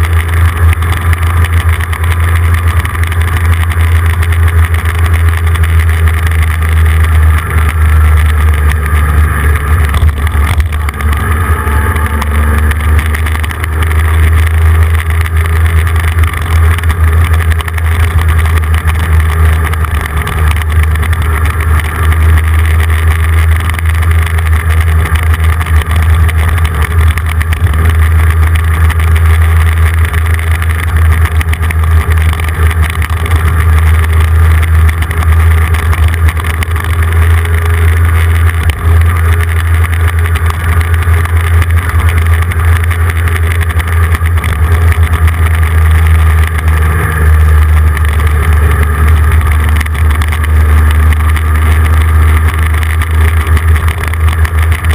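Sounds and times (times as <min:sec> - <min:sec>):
road vehicle droning: 0:00.0 - 0:54.9.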